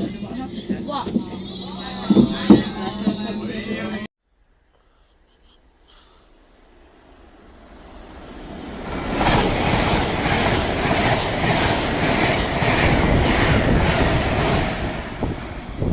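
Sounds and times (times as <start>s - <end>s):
train passing at speed: 0.0s - 4.1s, 6.4s - 15.9s.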